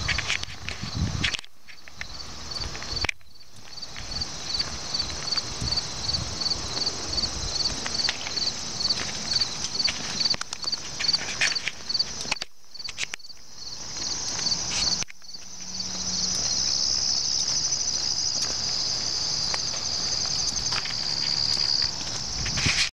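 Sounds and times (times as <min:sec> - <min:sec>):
footsteps on asphalt: 0:00.0 - 0:22.9
insects chirping and trilling: 0:00.0 - 0:22.9.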